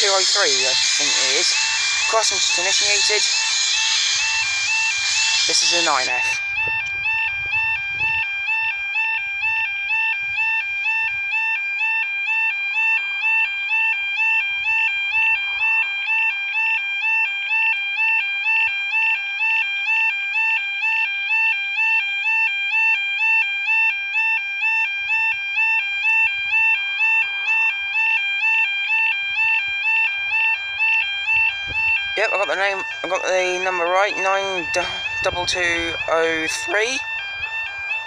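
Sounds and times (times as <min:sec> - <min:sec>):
level crossing alarm warbling: 0:00.0 - 0:38.0.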